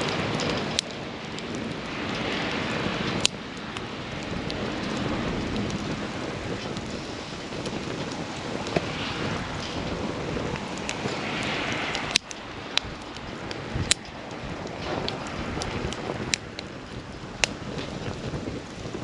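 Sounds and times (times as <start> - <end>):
campfire hissing: 0.0 - 19.0
fire crackling pops: 0.0 - 19.0.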